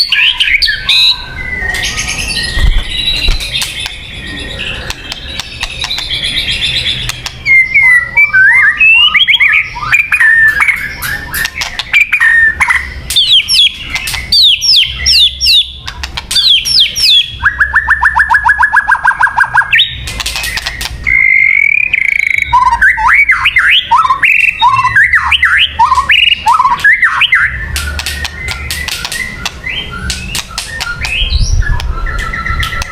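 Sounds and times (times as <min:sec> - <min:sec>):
bird singing varied song: 0:00.0 - 0:32.9.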